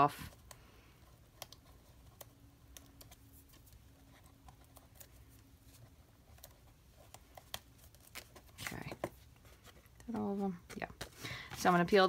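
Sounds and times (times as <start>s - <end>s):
small clicks of peeling paper: 1.3s - 11.2s.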